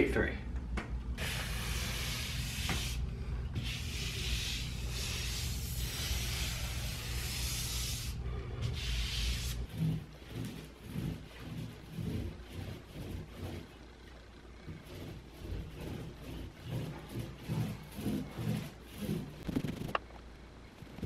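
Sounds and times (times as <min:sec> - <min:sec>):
low steady hum: 0:00.0 - 0:21.0
hand rubbing over drywall: 0:01.2 - 0:03.0, 0:03.6 - 0:14.0, 0:14.6 - 0:20.0.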